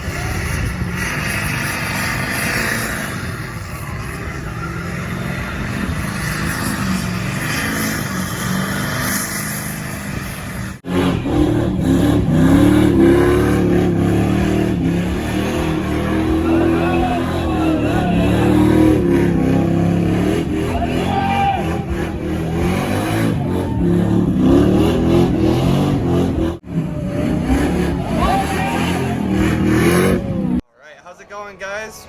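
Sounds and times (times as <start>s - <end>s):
loud engine revving: 0.0s - 30.6s
pickup truck engines revving: 0.0s - 30.6s.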